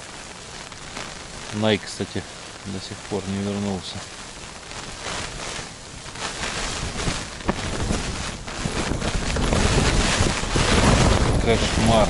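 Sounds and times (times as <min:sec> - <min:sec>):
rain and snow pelting fabric: 0:00.0 - 0:12.0
wind buffeting tent walls: 0:00.0 - 0:12.0.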